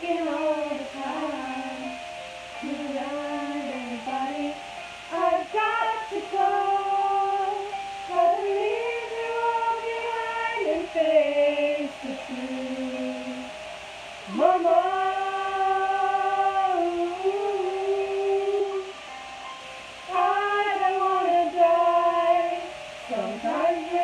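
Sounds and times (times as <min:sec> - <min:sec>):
women singing long held notes: 0:00.0 - 0:19.1, 0:20.0 - 0:24.0.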